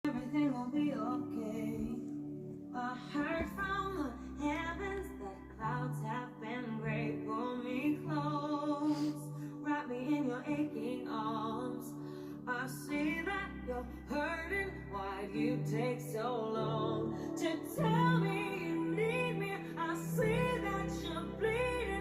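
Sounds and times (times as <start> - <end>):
person singing a melody: 0.0 - 22.0.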